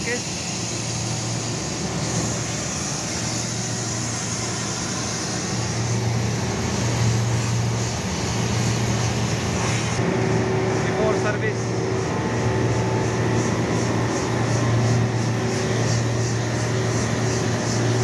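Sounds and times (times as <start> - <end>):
pressure washer jet hissing: 0.0 - 18.0
steady low hum: 0.0 - 18.0.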